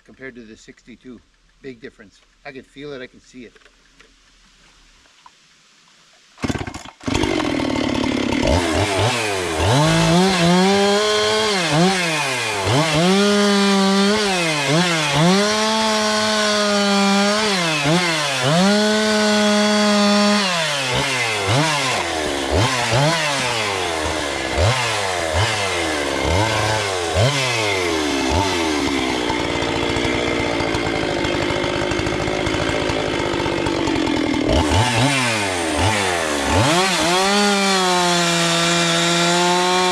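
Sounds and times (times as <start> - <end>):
chainsaw revving: 6.4 - 39.9.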